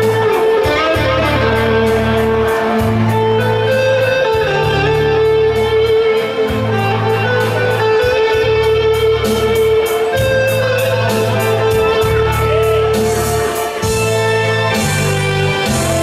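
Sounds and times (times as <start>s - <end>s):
bass notes: 0.0s - 16.0s
plucked electric string melody: 0.0s - 16.0s.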